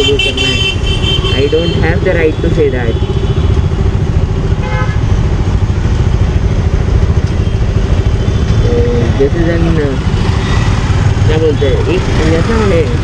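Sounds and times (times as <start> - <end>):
motorcycle engine running: 0.0 - 13.0
street traffic: 0.0 - 13.0.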